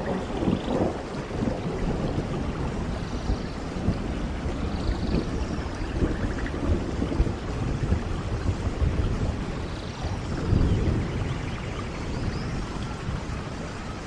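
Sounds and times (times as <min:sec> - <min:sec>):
heavy rain falling: 0:00.0 - 0:14.0
thunder rumbling: 0:00.0 - 0:14.0.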